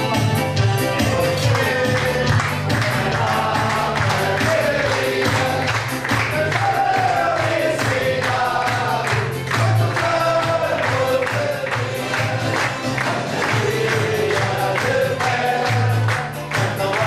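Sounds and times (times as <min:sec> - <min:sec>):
hands clapping in time: 0:00.1 - 0:17.0
men singing together: 0:01.0 - 0:17.0.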